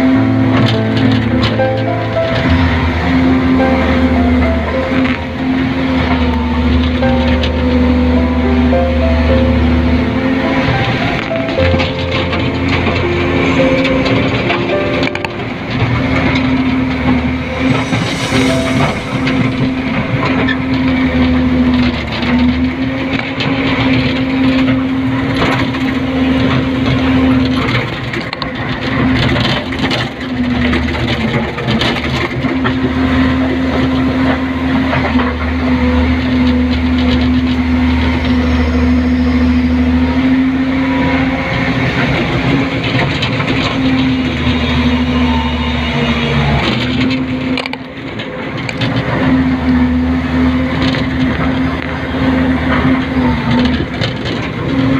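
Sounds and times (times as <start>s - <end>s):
excavator engine and hydraulics hum: 0.0s - 54.9s.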